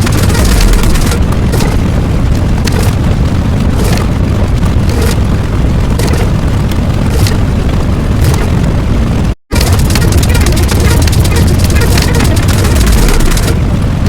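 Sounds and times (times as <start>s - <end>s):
crackles and sharp pops: 0.0s - 14.0s
rumbling explosion boom: 0.0s - 14.0s.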